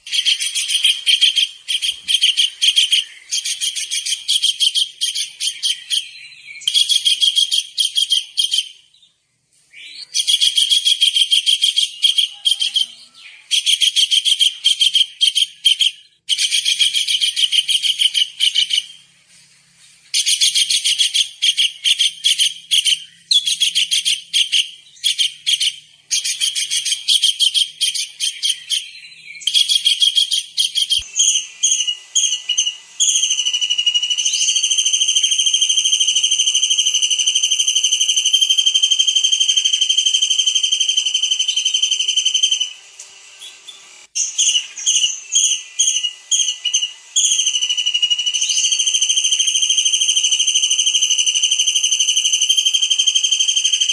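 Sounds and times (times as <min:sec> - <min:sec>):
bird whistles: 0:00.0 - 0:09.0, 0:09.7 - 0:19.0, 0:20.1 - 0:42.8, 0:43.4 - 0:53.9.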